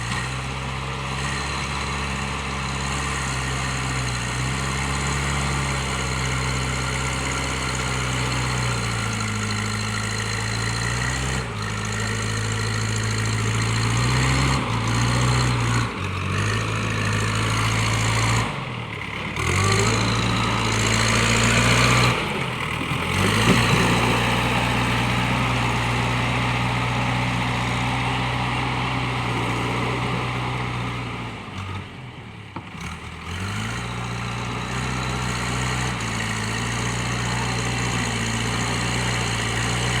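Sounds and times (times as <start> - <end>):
diesel engine revving: 0.0 - 40.0.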